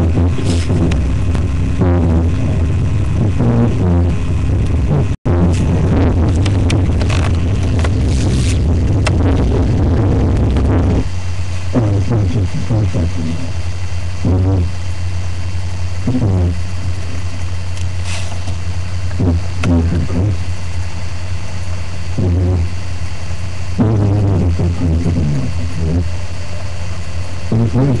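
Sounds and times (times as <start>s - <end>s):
electronic music with bass drone: 0.0s - 28.0s.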